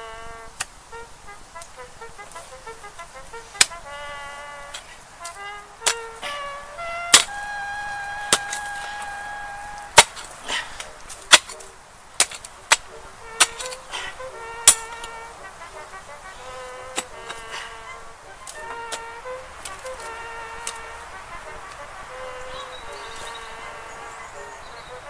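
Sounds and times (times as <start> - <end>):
background music: 0.0 - 25.0
mattock striking hard soil: 1.5 - 21.8.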